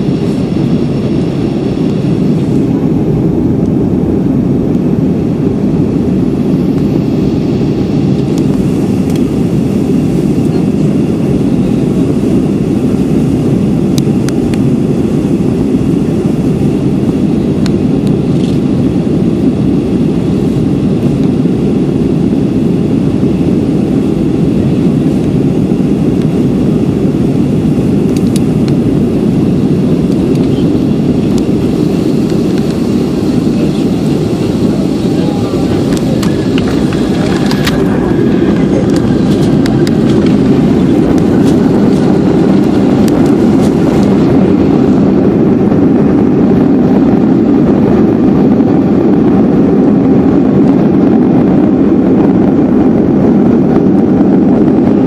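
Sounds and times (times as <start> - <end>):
jet engines roaring: 0.0 - 55.0
rushing air: 0.0 - 55.0.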